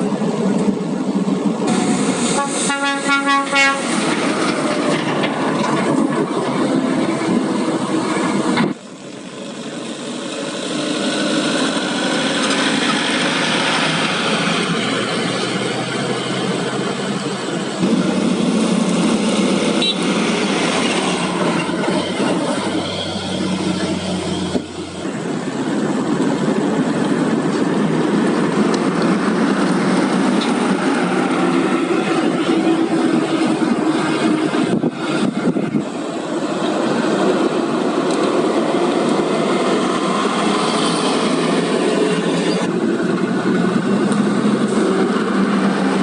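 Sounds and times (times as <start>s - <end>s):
diesel haul trucks running: 0.0s - 46.0s
road noise: 0.0s - 46.0s.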